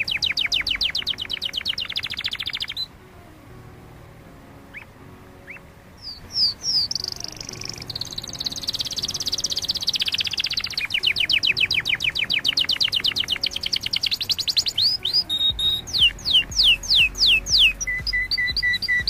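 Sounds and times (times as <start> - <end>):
canary singing: 0.0 - 3.0, 4.5 - 19.0.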